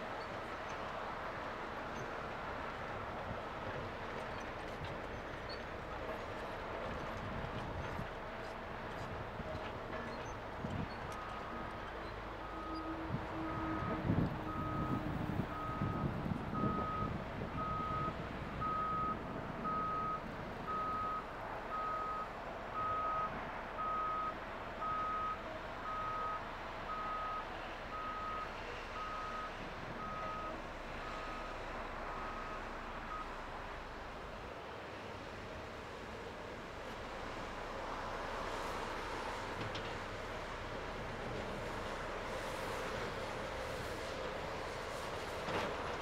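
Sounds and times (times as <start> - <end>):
diesel engine rumble: 0.0 - 46.0.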